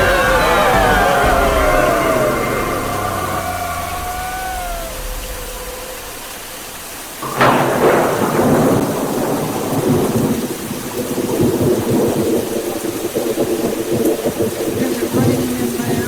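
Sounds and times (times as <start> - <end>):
steady rain: 0.0 - 16.0
thunderclap: 0.0 - 16.0.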